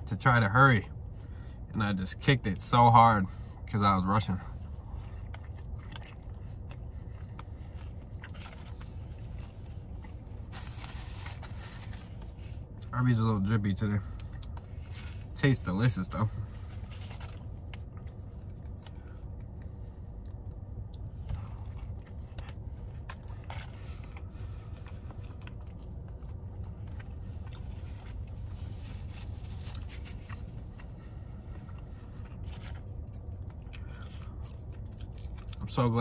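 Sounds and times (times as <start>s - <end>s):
steady low hum: 0.0s - 36.0s
man chewing food: 4.5s - 12.9s, 14.1s - 15.4s, 16.3s - 35.7s.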